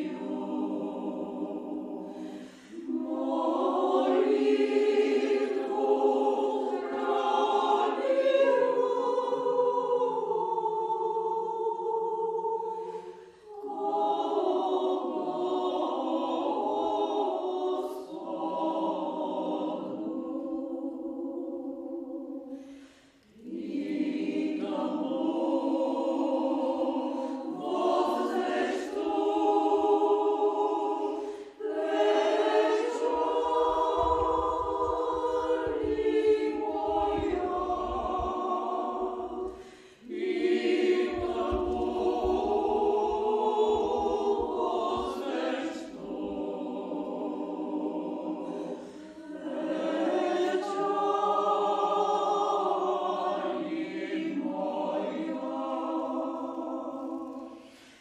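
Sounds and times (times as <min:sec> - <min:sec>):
choir singing a chant: 0:00.0 - 0:58.0.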